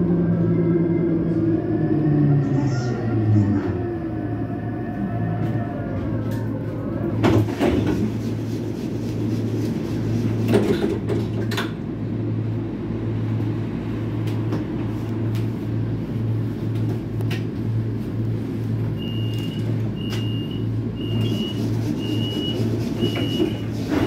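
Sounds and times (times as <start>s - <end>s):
tram hum and rumble: 0.0s - 24.0s.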